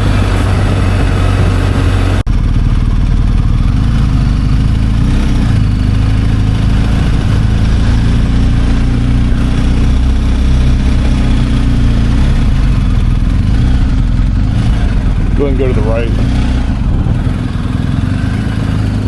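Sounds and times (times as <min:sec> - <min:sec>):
motorcycle engine droning: 0:00.0 - 0:19.0
road and wind noise: 0:00.0 - 0:19.0.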